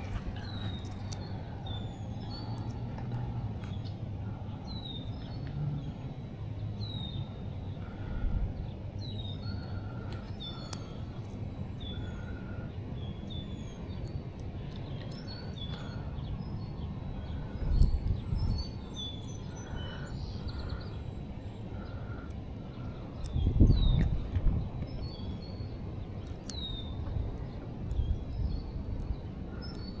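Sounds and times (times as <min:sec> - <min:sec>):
birds chirping: 0:00.0 - 0:30.0
steady low rumble: 0:00.0 - 0:30.0.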